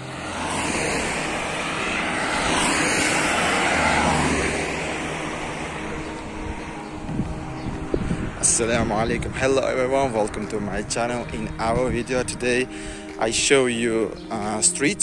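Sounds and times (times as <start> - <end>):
passing vehicle roar: 0.0 - 15.0.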